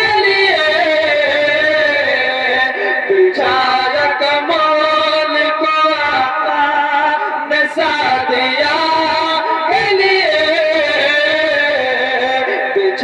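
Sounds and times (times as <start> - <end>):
man singing through microphone: 0.0 - 13.0.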